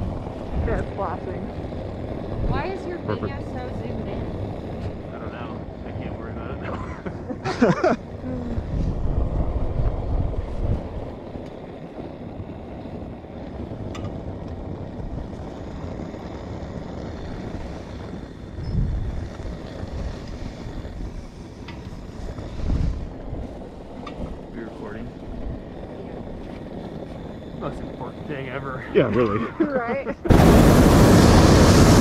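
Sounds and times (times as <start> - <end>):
wind noise on microphone: 0.0 - 32.0.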